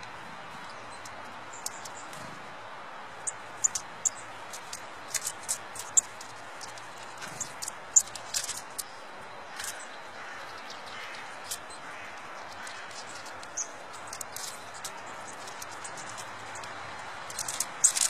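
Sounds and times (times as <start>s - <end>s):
bird ticks and chirps: 0.0s - 2.2s, 3.2s - 18.0s.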